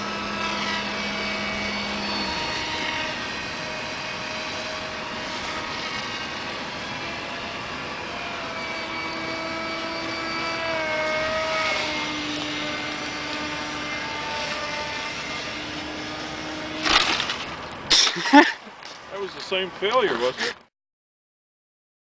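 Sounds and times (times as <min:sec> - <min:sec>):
electric motor propeller whining: 0:00.0 - 0:19.1.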